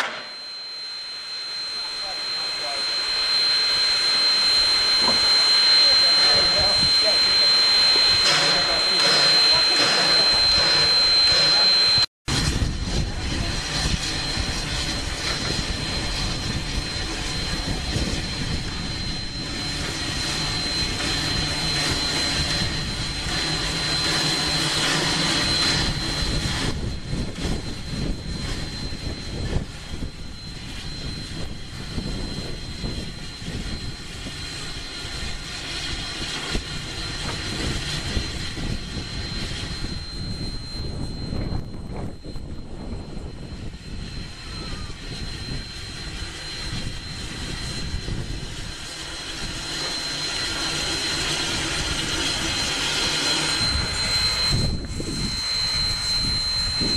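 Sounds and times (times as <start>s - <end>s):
thin high whine: 0.0s - 56.9s
steam escaping with roar: 1.1s - 56.9s.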